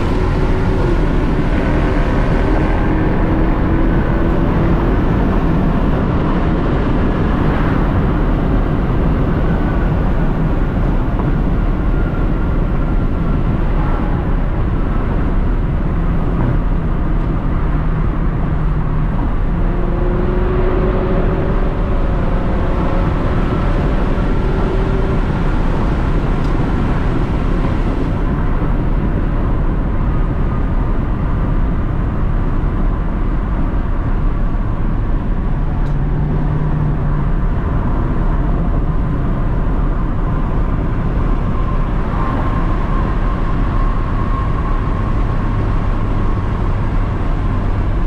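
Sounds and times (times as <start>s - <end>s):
car exhaust droning: 0.0s - 48.0s
road and wind noise: 0.0s - 48.0s.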